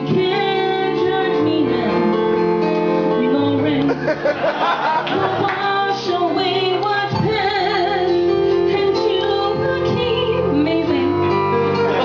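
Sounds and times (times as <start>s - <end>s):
musical accompaniment: 0.0s - 12.0s.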